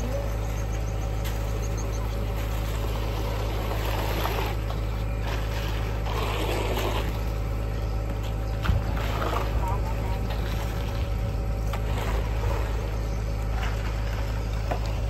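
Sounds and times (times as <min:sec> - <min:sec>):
engine droning: 0:00.0 - 0:15.0
straightedge scraping wet concrete: 0:00.0 - 0:15.0.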